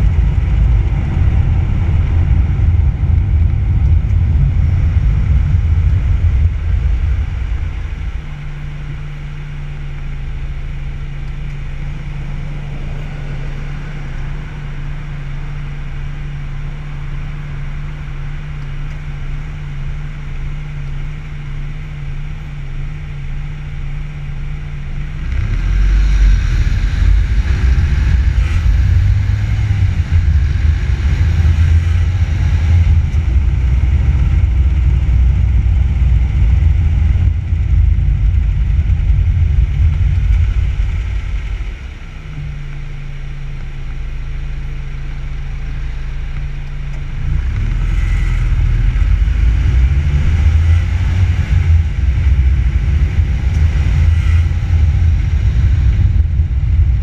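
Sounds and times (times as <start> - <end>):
car engine humming: 0.0 - 57.0
rumble of engine tyres and wind: 0.0 - 57.0.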